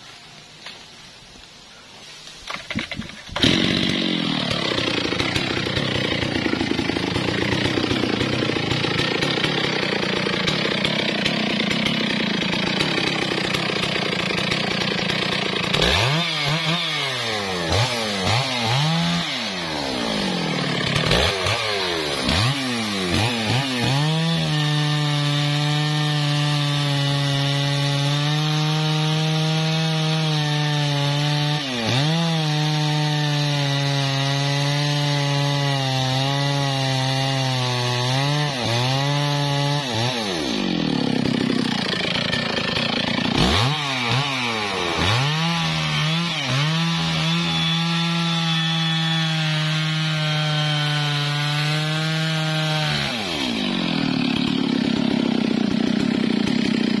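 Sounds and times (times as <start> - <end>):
chainsaw cutting wood: 2.3 - 57.0.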